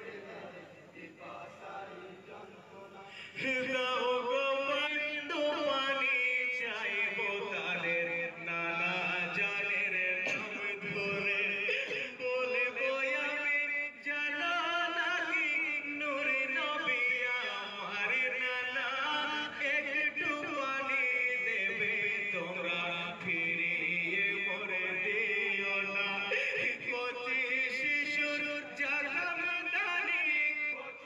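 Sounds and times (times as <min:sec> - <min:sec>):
voices chanting a lament: 0:00.0 - 0:31.0.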